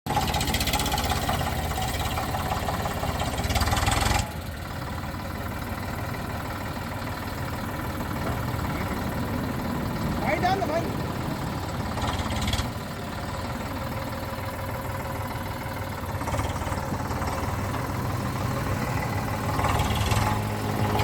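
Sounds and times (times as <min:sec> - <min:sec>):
diesel tractor engine running: 0:00.1 - 0:21.0.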